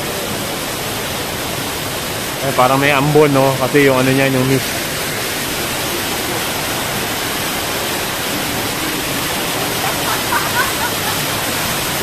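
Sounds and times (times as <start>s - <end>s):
indoor waterfall pouring: 0.0s - 12.0s.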